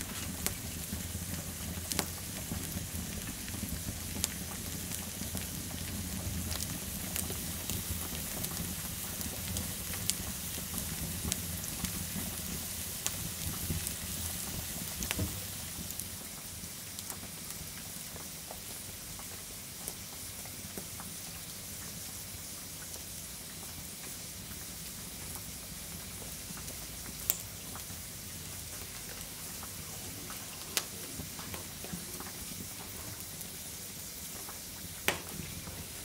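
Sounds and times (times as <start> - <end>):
fat and chocolate sizzling: 0.0 - 17.6, 22.8 - 36.0.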